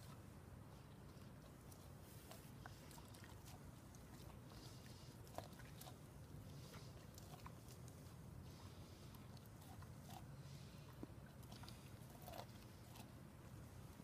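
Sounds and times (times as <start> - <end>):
dog crunching corn kernels: 1.0 - 8.4, 9.1 - 14.0.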